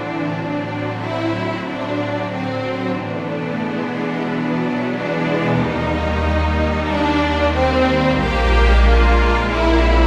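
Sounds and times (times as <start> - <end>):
slow orchestral music: 0.0 - 10.0.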